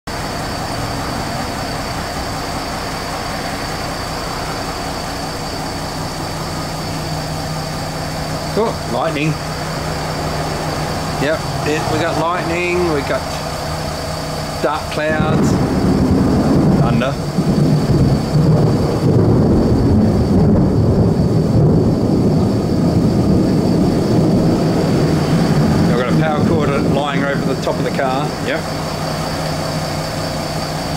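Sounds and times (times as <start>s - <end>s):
steady rain falling: 0.1s - 30.9s
thunder rolling: 0.1s - 30.9s.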